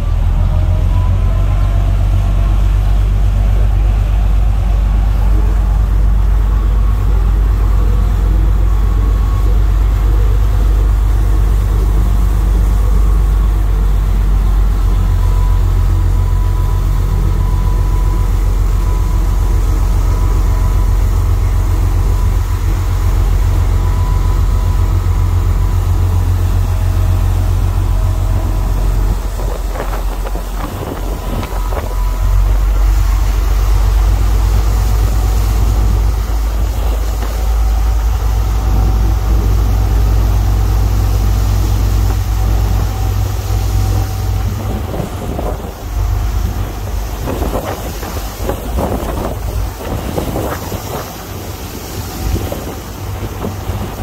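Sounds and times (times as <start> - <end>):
ferry engines rumbling: 0.0 - 54.0.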